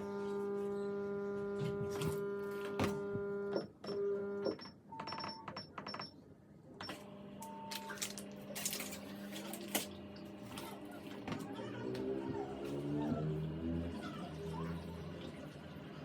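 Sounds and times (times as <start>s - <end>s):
washing machine motor hum: 0.0s - 6.0s, 6.8s - 16.0s.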